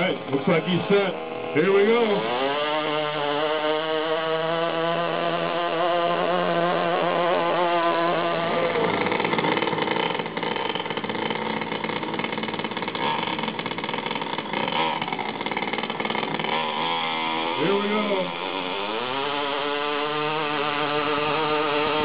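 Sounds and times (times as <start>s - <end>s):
small two-stroke engine buzzing: 0.0s - 22.0s.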